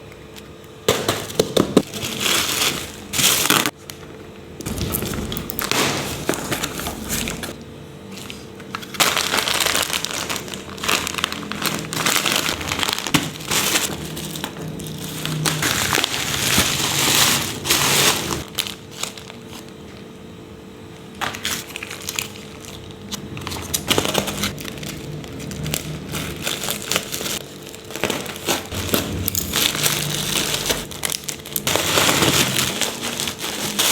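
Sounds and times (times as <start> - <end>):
plastic packaging crinkling: 1.2 - 20.1, 21.0 - 33.9.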